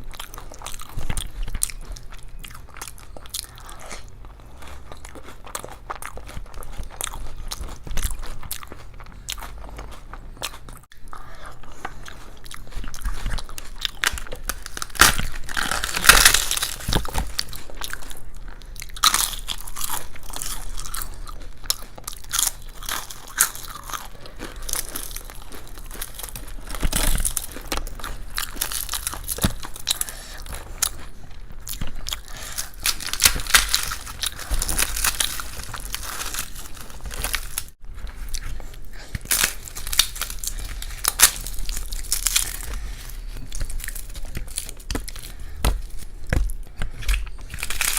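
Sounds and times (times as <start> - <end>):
person chewing crisp food: 0.0 - 47.9.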